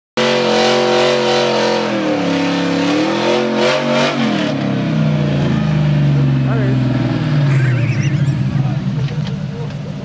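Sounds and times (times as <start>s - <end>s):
car engine revving: 0.2s - 10.0s.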